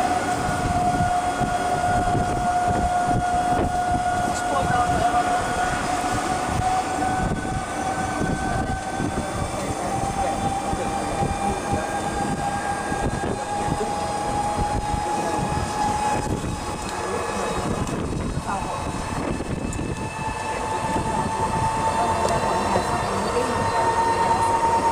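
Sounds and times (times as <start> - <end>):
electric motor whining: 0.0 - 24.9
road rumble: 0.0 - 24.9
wind buffeting microphone: 0.0 - 24.9.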